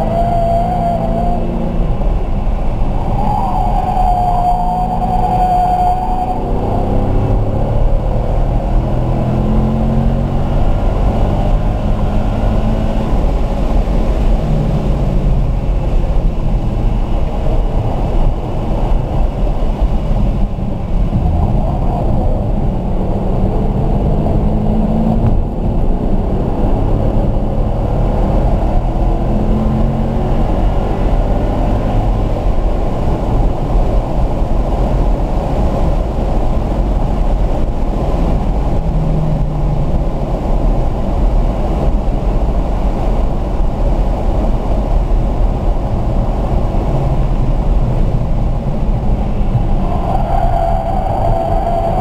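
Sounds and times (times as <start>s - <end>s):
car engine accelerating: 0.0s - 52.0s
wind and road noise: 0.0s - 52.0s.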